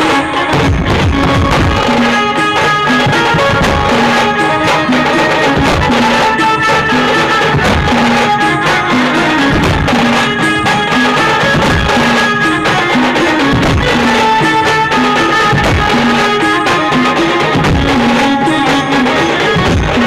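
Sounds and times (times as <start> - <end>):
drums beating: 0.0 - 20.0
folk music melody: 0.0 - 20.0.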